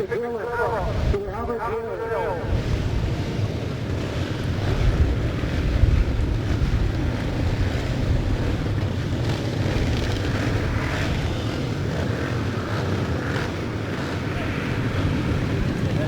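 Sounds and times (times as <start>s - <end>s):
motocross bikes racing: 0.0s - 16.0s
wind buffeting microphone: 0.5s - 16.0s.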